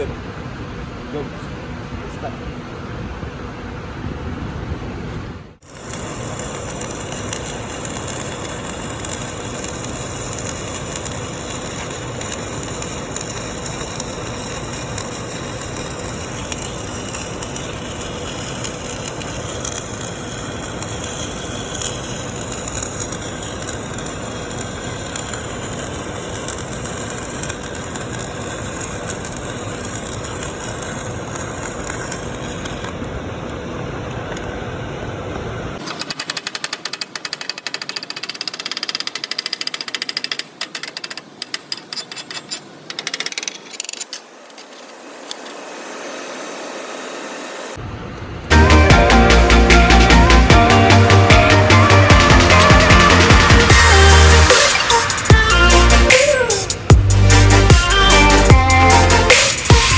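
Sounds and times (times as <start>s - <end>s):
welding arc crackling sizzle: 5.6s - 59.9s.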